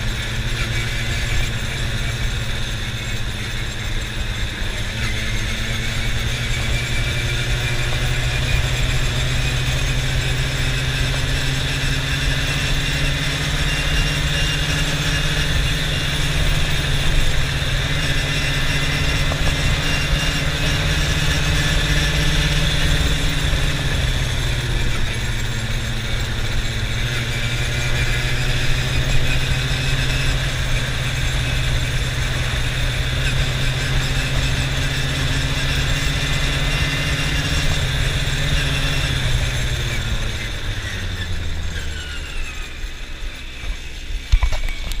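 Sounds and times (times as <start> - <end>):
quad bike engine running: 0.0 - 45.0.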